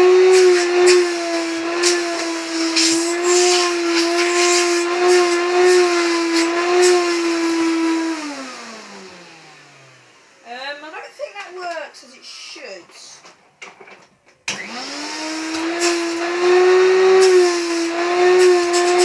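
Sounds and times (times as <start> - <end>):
vacuum cleaner motor whining: 0.0 - 11.5, 14.5 - 19.0.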